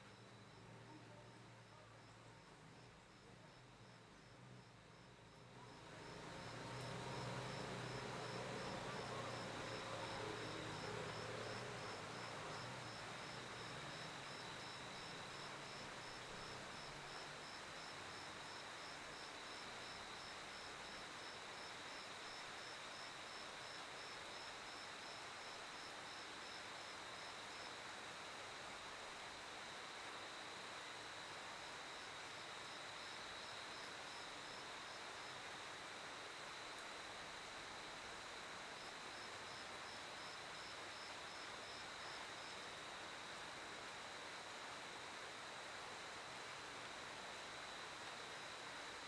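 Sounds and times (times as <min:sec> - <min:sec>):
cricket chirping: 0:00.0 - 0:27.9, 0:29.4 - 0:49.0.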